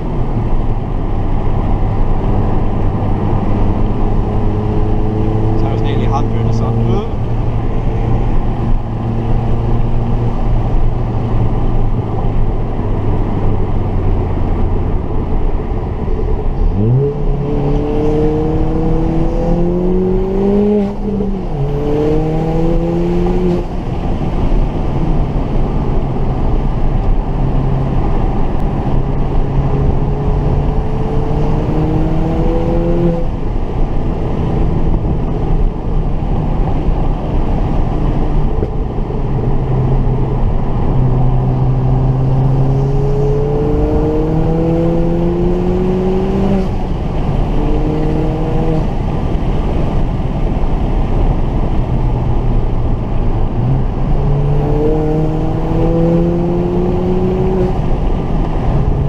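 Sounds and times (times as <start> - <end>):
road noise: 0.0 - 59.0
turbocharged car engine: 0.0 - 59.0.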